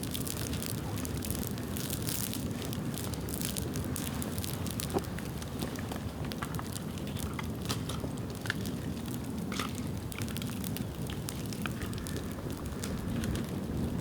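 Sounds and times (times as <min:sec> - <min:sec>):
bamboo crackling and popping: 0:00.0 - 0:14.0
low rumble of flames: 0:00.0 - 0:14.0.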